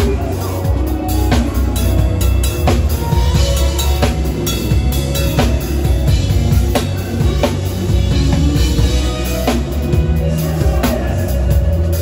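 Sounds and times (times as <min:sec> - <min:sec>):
drum kit playing a groove: 0:00.0 - 0:12.0
gospel band music: 0:00.0 - 0:12.0
heavy low bass: 0:00.0 - 0:12.0.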